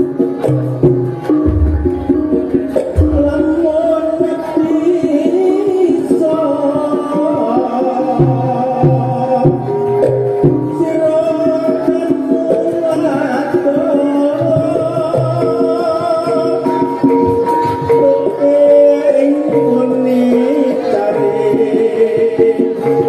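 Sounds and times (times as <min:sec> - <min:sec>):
gamelan music: 0:00.0 - 0:23.0
hand drum strokes: 0:00.0 - 0:23.0
person singing: 0:01.2 - 0:23.0.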